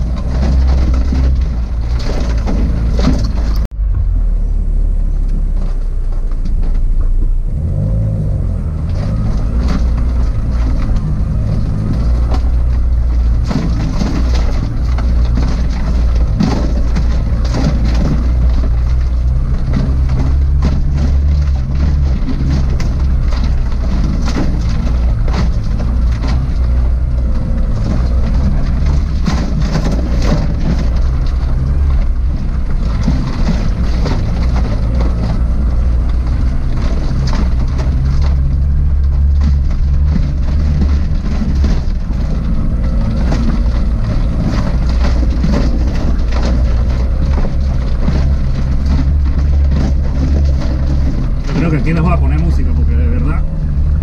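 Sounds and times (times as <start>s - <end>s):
knocks and rattles: 0.0s - 4.1s, 8.8s - 54.0s
car engine drone: 0.0s - 54.0s.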